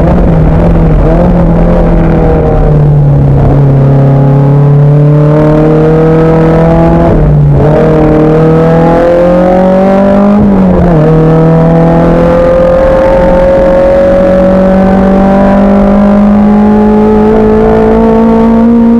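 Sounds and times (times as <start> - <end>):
race car engine accelerating: 0.0 - 18.9.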